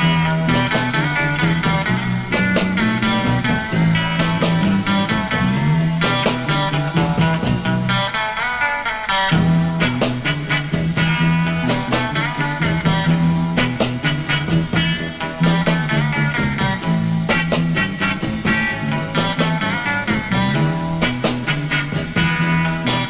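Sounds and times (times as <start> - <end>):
bass line: 0.0 - 8.2, 9.3 - 23.0
drums: 0.0 - 23.0
electric guitar: 0.0 - 23.0.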